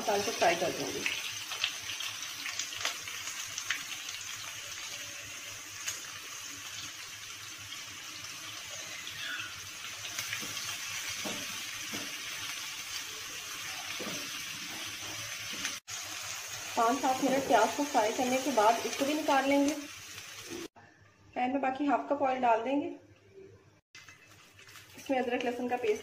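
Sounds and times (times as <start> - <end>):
onions sizzling in hot oil: 0.0 - 20.8, 24.0 - 26.0.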